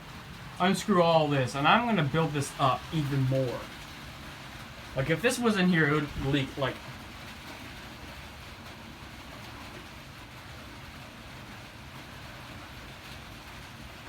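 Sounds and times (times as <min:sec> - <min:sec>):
rain on a metal roof: 0:00.0 - 0:14.0.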